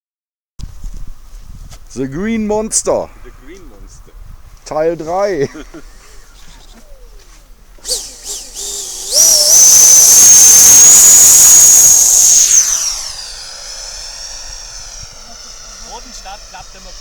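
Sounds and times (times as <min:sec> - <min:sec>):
model jet fan whine: 0:00.8 - 0:17.0.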